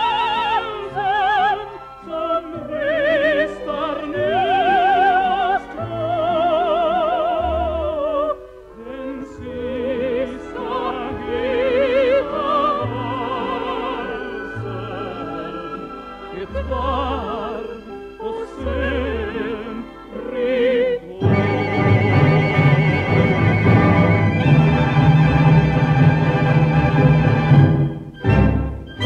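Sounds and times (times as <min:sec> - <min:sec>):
operatic soprano singing: 0:00.0 - 0:25.7
theatre orchestra playing: 0:00.0 - 0:29.0.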